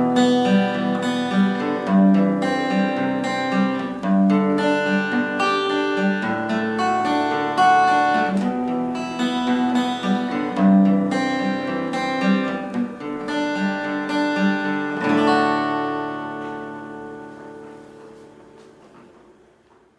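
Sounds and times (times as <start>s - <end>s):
acoustic guitar playing: 0.0s - 19.9s.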